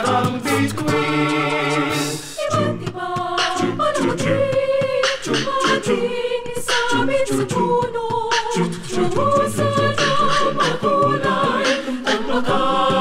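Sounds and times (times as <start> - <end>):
a cappella group singing: 0.0 - 13.0
beatboxed vocal percussion: 0.0 - 13.0.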